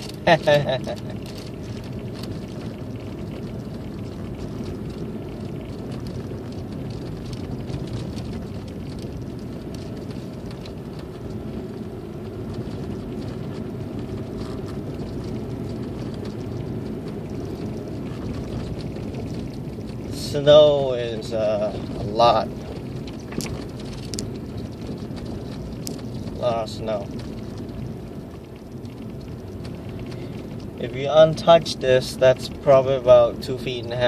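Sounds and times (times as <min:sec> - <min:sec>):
car engine and tyre noise: 0:00.0 - 0:34.0.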